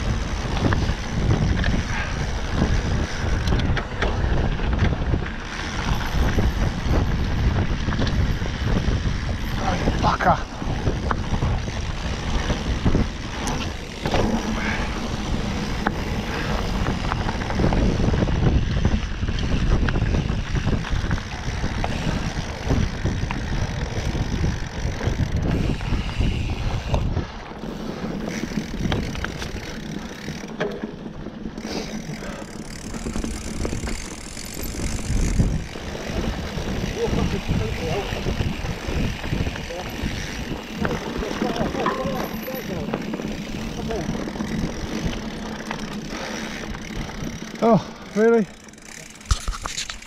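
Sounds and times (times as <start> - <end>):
bike rattling and knocking: 0.0 - 50.0
bike tyres rumbling on dirt: 0.0 - 50.0
wind buffeting microphone: 0.0 - 50.0.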